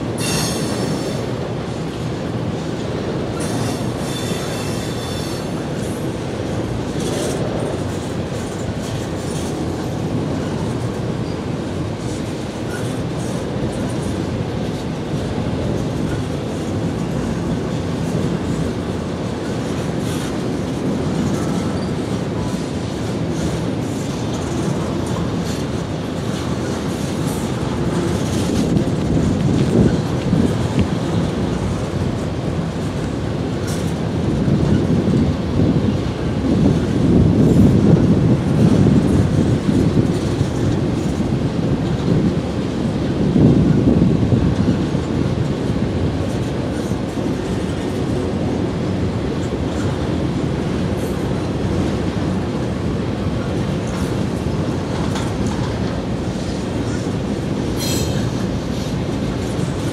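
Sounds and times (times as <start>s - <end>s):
freight train rolling past: 0.0s - 59.9s
steel wheels clattering on rails: 0.0s - 59.9s.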